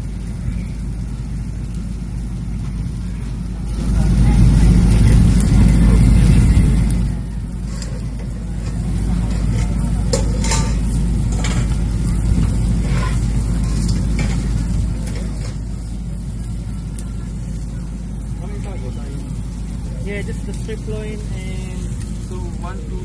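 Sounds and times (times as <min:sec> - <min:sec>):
food sizzling on a grill: 0:00.0 - 0:23.0
low rumble: 0:00.0 - 0:23.0.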